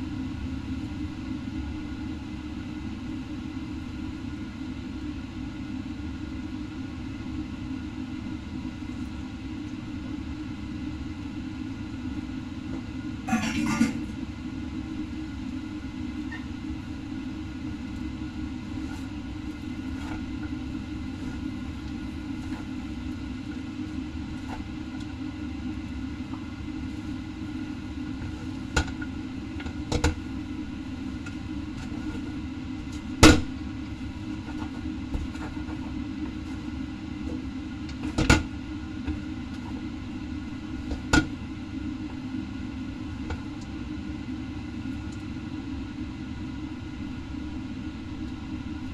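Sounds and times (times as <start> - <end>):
low kitchen rumble: 0.0 - 48.9.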